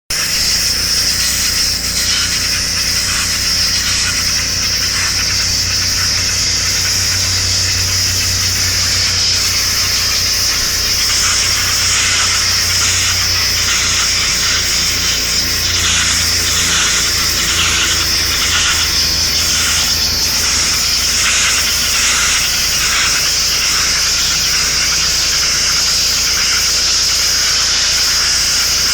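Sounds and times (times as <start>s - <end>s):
washer motor hum: 0.1s - 28.9s
water jet hissing on tiles: 0.1s - 28.9s.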